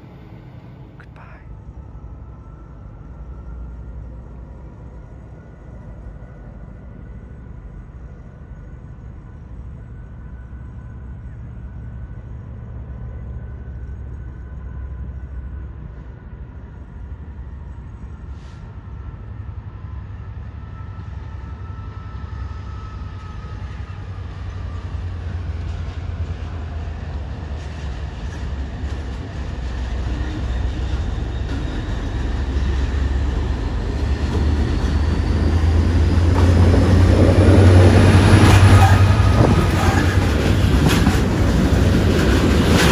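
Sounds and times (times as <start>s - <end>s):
train rumble: 0.0s - 42.9s.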